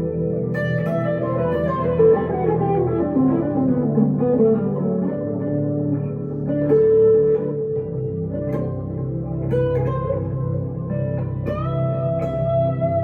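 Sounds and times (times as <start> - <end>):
electric guitar melody: 0.0 - 13.0
sustained low guitar notes: 0.0 - 13.0.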